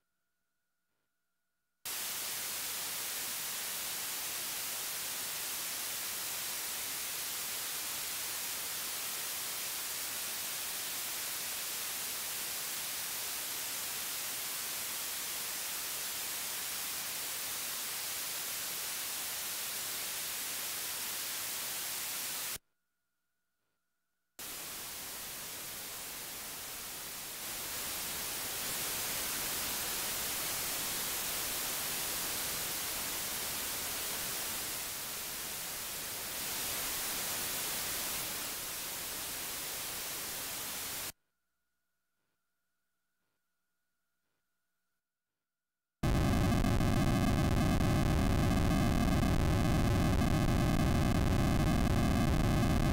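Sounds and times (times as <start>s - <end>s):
analog white noise hiss: 1.9s - 22.6s, 24.4s - 41.2s, 46.0s - 52.9s
digital white noise: 1.9s - 22.6s, 24.4s - 41.1s, 46.0s - 52.9s.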